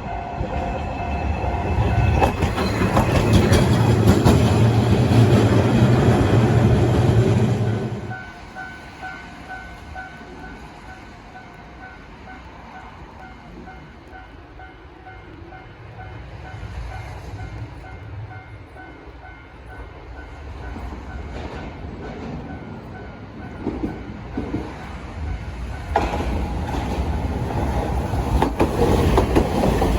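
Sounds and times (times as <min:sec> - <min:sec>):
tram rumbling past: 0:00.0 - 0:29.9.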